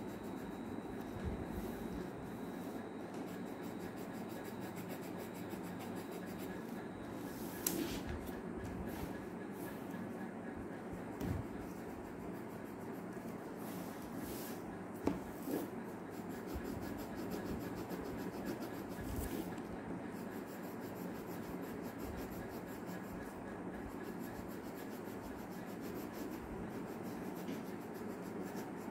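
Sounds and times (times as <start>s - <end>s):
pencil rubbing on paper: 0.0s - 10.1s, 11.4s - 14.6s, 15.3s - 28.9s.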